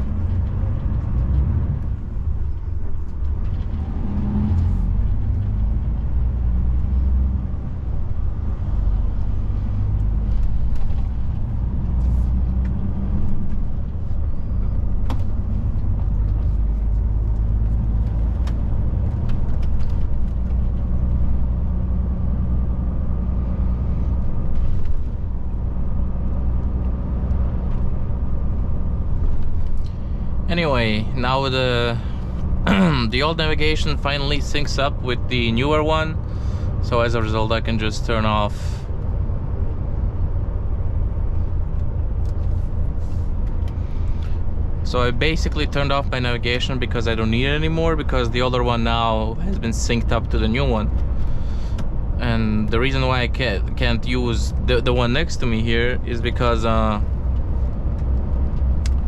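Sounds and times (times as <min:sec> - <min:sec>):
road noise: 0:00.0 - 0:59.0
truck diesel engine drone: 0:00.0 - 0:59.0.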